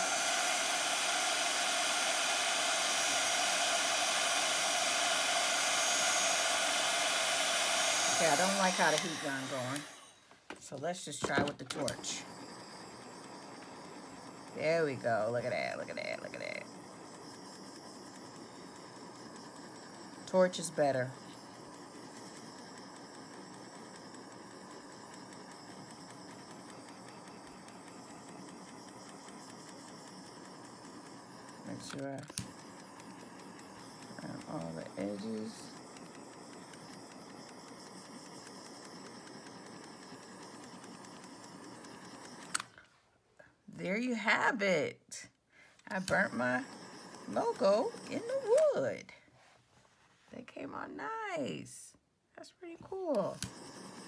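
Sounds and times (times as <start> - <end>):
heat gun blowing hiss: 0.0 - 42.8, 45.6 - 49.5, 53.1 - 54.0.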